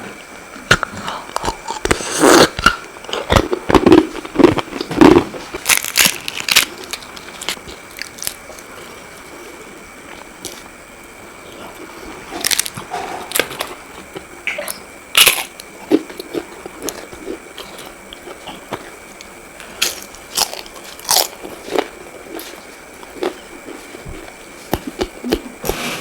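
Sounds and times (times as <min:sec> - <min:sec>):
person chewing crunchy food: 0:00.6 - 0:10.7, 0:11.4 - 0:26.0.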